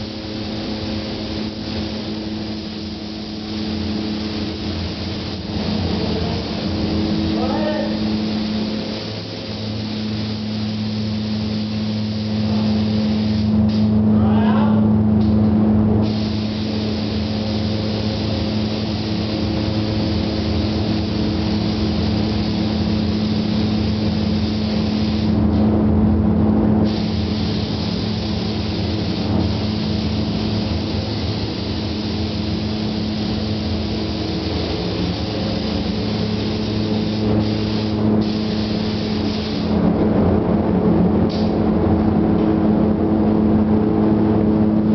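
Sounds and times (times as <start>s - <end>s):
paint spray gun hissing: 0.0s - 14.0s, 15.2s - 25.6s, 26.8s - 39.8s, 41.3s - 41.6s
low machine hum: 0.0s - 44.9s.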